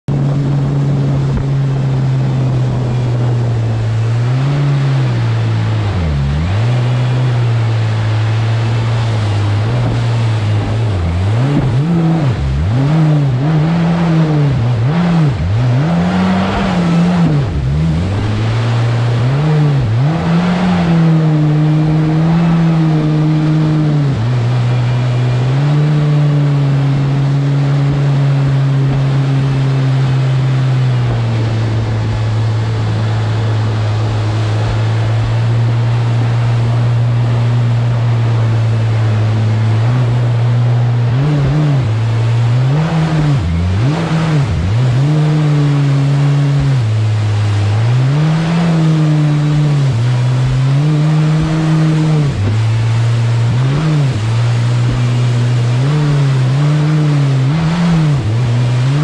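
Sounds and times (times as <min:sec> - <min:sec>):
jet boat engine running: 0:00.0 - 0:59.0
rushing river water: 0:00.1 - 0:59.0.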